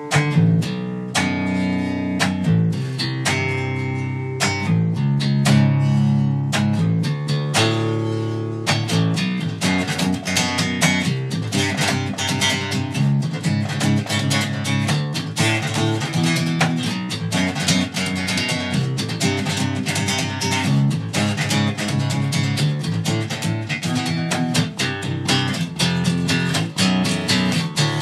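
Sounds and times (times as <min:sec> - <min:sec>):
bass guitar riff: 0:00.0 - 0:28.0.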